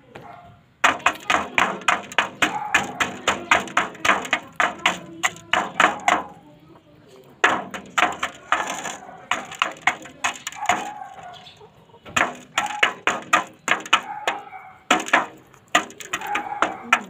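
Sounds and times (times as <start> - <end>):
beak tapping on metal basin: 0.8 - 6.4, 7.2 - 17.0.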